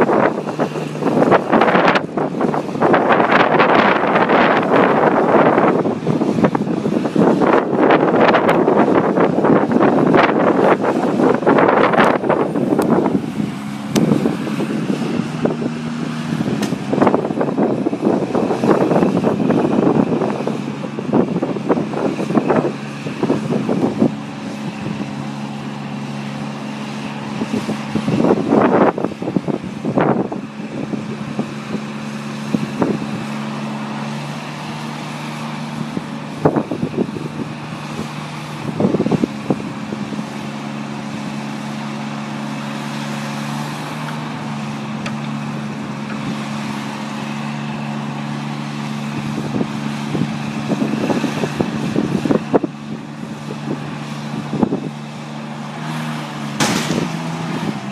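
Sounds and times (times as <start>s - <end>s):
hydraulic boom moving: 0.0s - 57.9s
truck engine running steadily: 0.0s - 57.9s.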